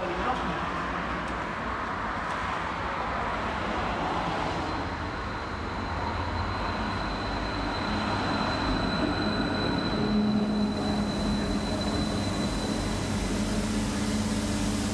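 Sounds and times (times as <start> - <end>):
tram electric drive hum: 0.0 - 14.9.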